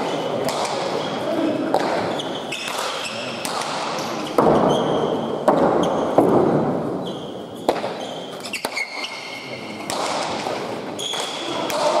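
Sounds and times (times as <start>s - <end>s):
sneakers squeaking on court floor: 0.0s - 6.3s, 6.9s - 11.7s
ball smacks echoing in a hall: 0.0s - 12.0s.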